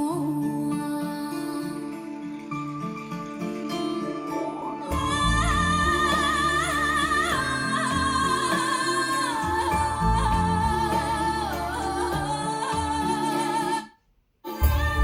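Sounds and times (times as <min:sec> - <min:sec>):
slow ballad music: 0:00.0 - 0:13.8, 0:14.5 - 0:15.0.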